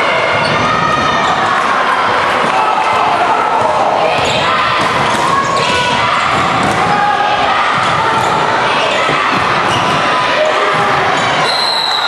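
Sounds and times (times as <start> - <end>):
people's voices echoing: 0.0 - 12.0.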